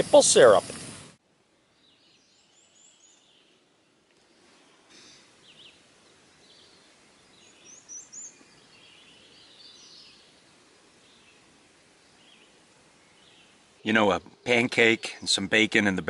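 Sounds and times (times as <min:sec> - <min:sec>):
songbirds chirping: 0:01.4 - 0:16.0.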